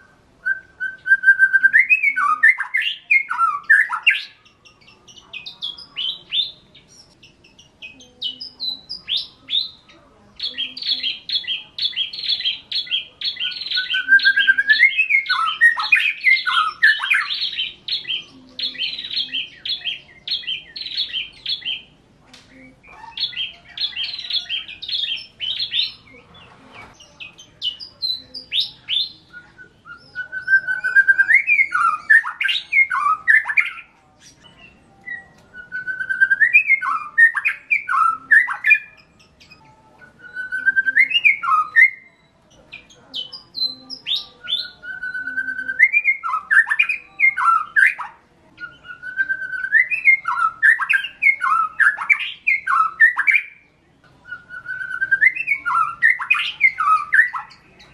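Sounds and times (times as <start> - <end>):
songbird singing whistled phrases: 0.0 - 57.9.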